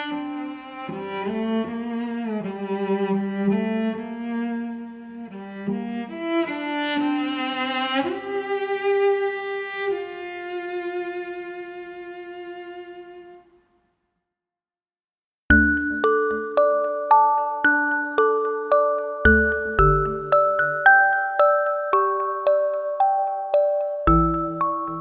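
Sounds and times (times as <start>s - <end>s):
slow instrumental music: 0.0s - 13.1s, 15.5s - 25.0s.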